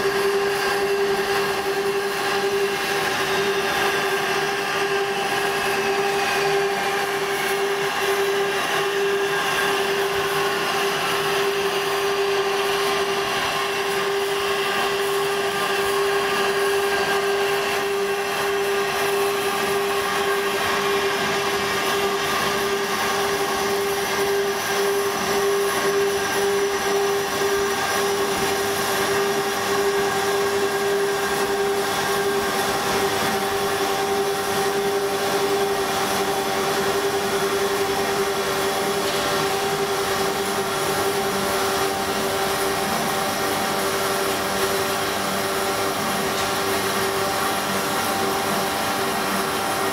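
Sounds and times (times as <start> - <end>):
band saw cutting metal pipe: 0.0 - 49.9.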